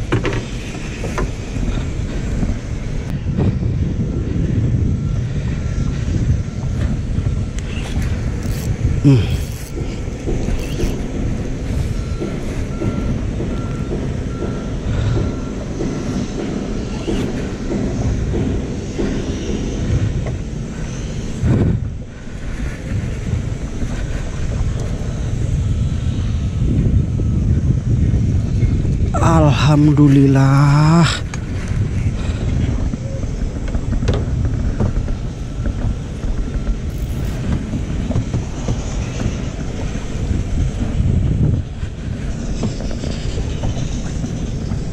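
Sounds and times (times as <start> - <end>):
steady low rumble: 0.0 - 44.9.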